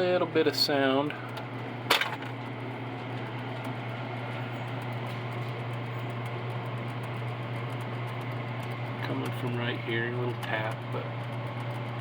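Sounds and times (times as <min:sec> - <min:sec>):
electric typewriter motor humming: 0:00.0 - 0:12.0.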